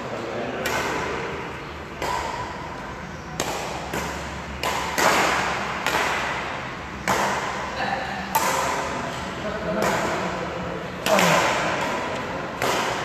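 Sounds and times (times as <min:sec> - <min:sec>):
rackets striking shuttlecock: 0:00.2 - 0:13.0.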